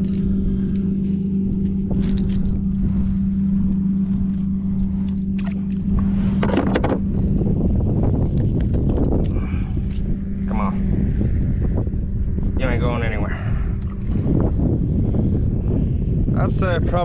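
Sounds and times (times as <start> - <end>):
small motor humming: 0.0 - 16.3
low rumble: 0.0 - 17.0.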